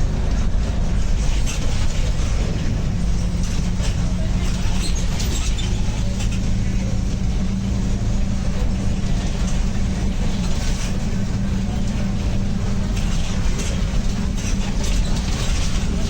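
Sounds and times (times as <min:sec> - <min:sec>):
diesel bus drone: 0:00.0 - 0:16.0.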